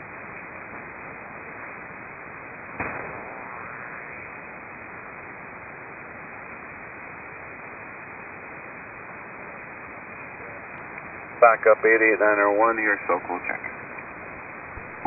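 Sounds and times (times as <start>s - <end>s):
shortwave radio static hiss: 0.0s - 15.0s.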